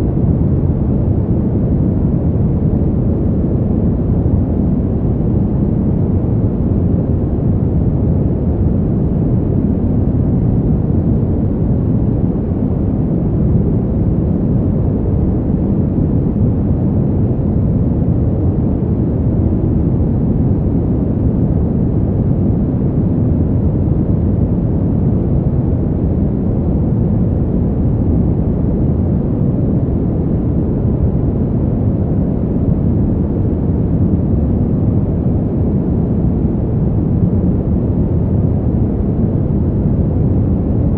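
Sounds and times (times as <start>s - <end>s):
deep muffled wind rush: 0.0s - 40.9s.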